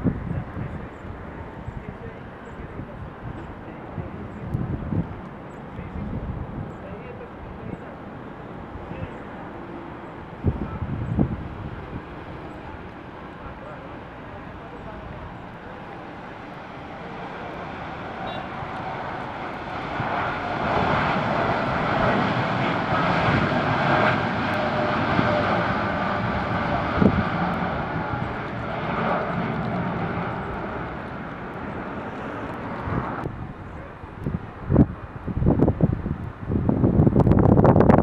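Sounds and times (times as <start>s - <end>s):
airliner engines passing: 0.0s - 38.0s.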